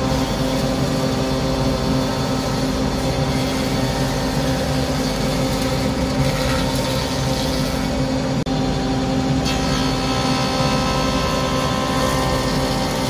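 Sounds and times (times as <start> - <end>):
planer thicknesser humming: 0.0 - 13.0.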